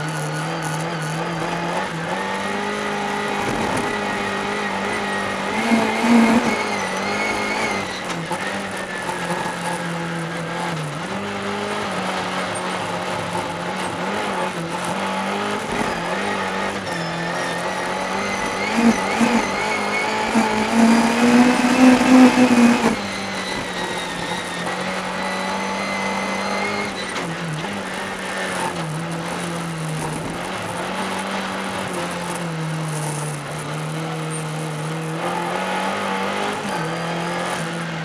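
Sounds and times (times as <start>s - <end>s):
race car engine running hard: 0.0s - 38.0s.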